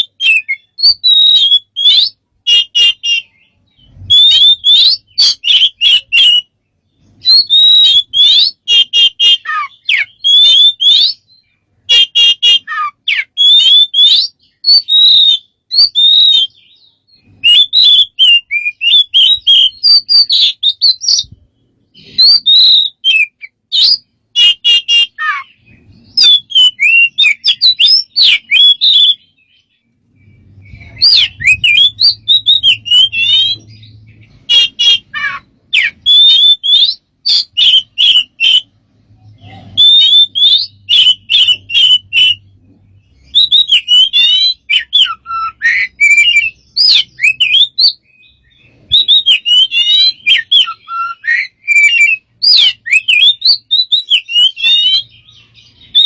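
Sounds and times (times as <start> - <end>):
bird chirping and whistling: 0.0 - 56.0.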